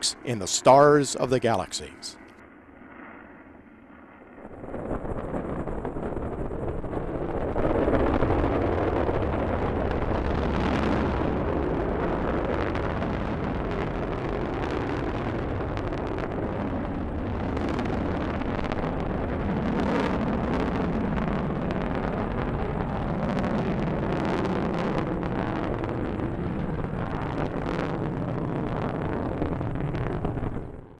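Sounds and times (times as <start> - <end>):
rocket exhaust rumble: 4.2 - 30.9.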